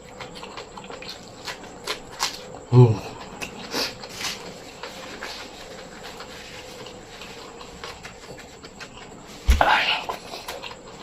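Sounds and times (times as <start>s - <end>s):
crunchy wet chewing: 0.0s - 11.0s.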